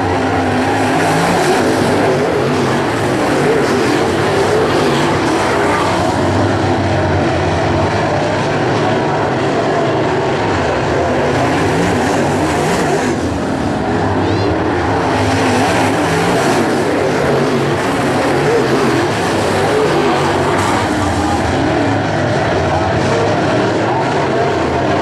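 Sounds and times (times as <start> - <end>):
race car engines: 0.0 - 25.0.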